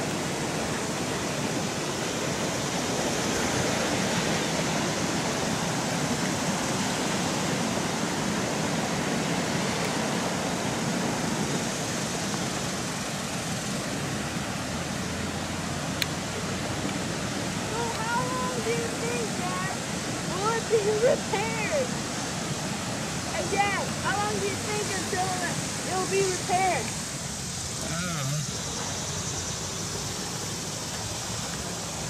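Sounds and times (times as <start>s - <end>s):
rushing creek water: 0.0s - 32.0s.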